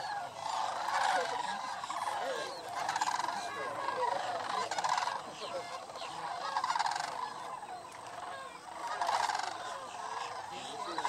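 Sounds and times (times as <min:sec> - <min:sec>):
flock of cranes calling: 0:00.0 - 0:11.0.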